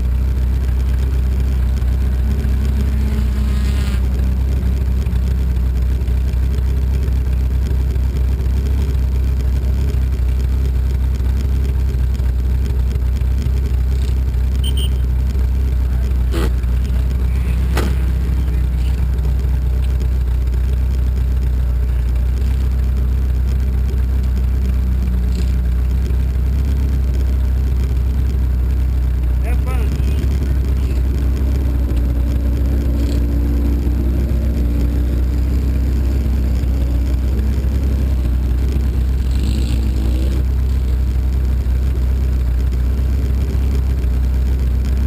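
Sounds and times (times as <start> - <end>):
racing car engine droning: 0.0 - 45.0.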